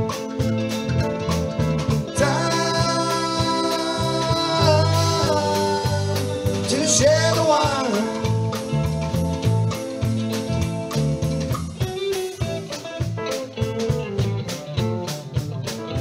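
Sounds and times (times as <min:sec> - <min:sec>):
guitar song with steady beat: 0:00.0 - 0:16.0.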